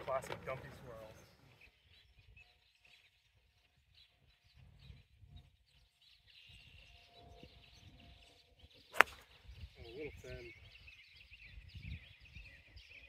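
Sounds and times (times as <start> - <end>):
faint bird chirps: 0.8 - 13.0.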